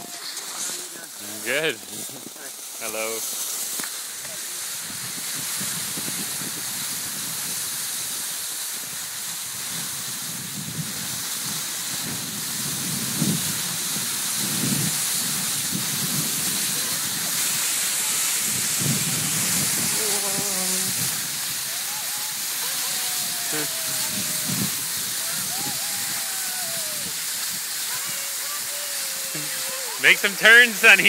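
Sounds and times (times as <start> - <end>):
skis hissing over snow: 0.0 - 31.0.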